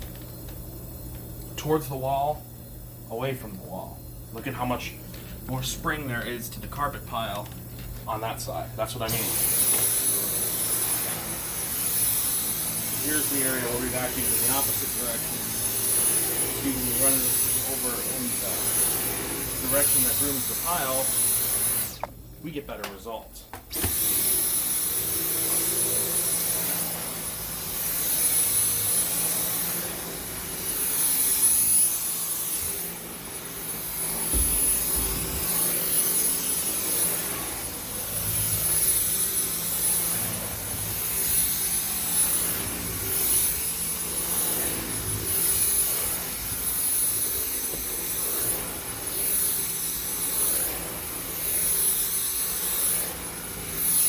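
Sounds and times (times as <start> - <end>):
vacuum suction hiss on carpet: 0.0 - 54.0
vacuum motor whining: 8.9 - 22.2, 22.8 - 54.0.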